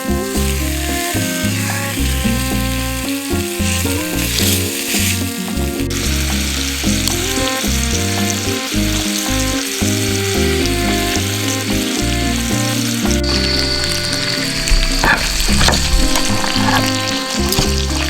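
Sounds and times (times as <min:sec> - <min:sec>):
instrumental background music: 0:00.0 - 0:18.0.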